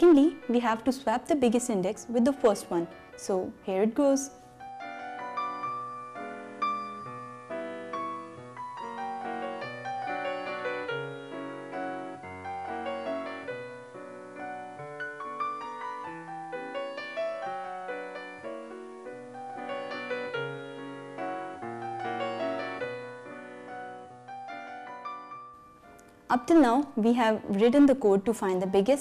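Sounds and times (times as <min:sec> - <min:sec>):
solo piano playing: 0:00.0 - 0:27.6.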